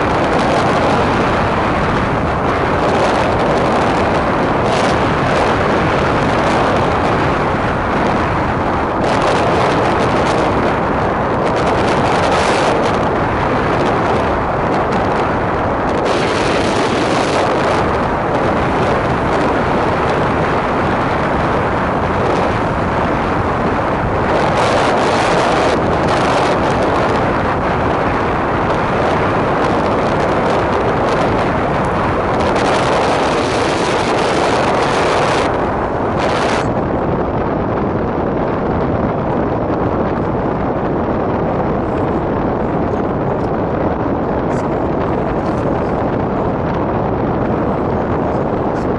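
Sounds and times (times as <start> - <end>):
blizzard wind on microphone: 0.0 - 48.9.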